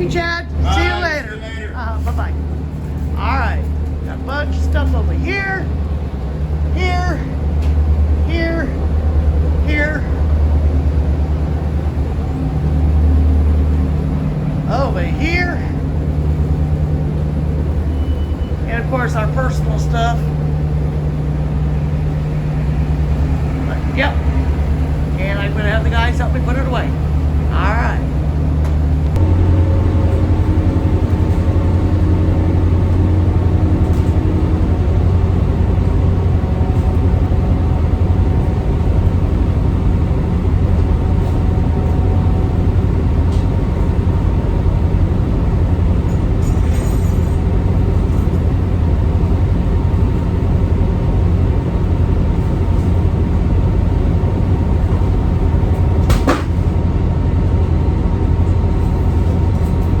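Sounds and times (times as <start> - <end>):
boat engines droning: 0.0 - 60.0.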